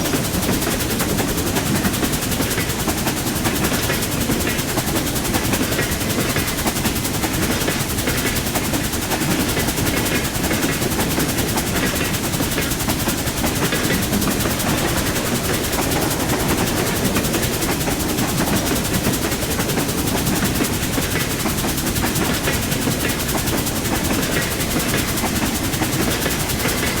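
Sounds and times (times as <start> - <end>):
train rumbling and rattling past: 0.0 - 27.0.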